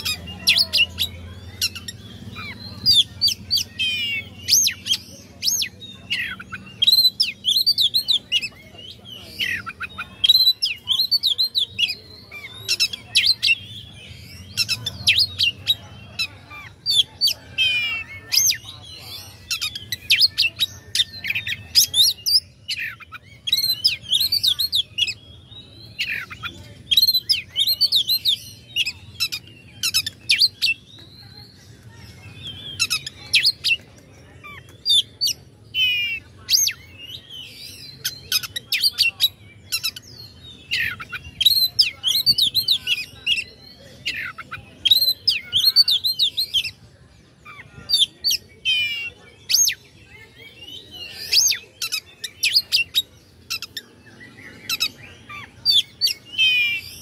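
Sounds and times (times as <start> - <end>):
bird singing varied song: 0.0 - 57.0.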